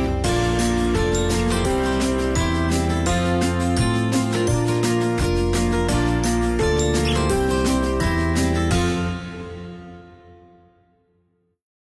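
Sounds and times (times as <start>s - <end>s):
plucked string music: 0.0s - 10.4s.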